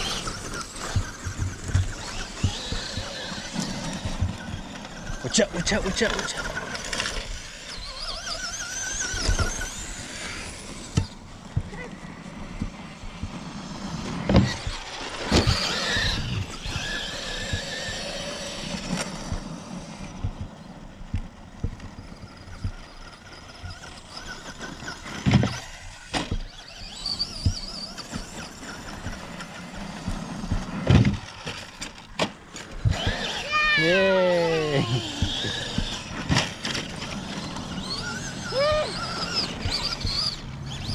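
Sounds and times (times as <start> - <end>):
rc truck motor whine: 0.0 - 40.9
tyres scrabbling on gravel: 0.0 - 40.9.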